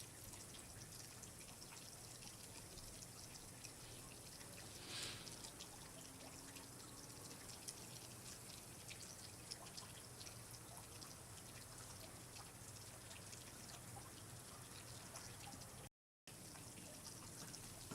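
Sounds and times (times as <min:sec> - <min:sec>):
faint water trickling: 0:00.0 - 0:17.9
soft steady hiss: 0:00.0 - 0:17.9
water dripping: 0:00.0 - 0:17.9.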